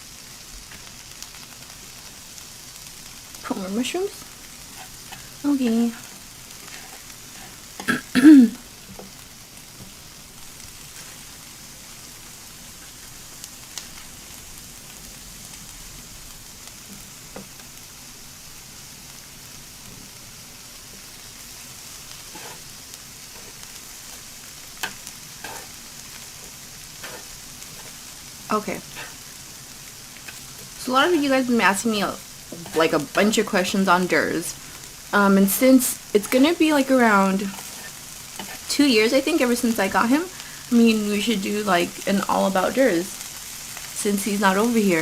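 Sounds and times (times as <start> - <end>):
food sizzling on a grill: 0.0 - 45.0.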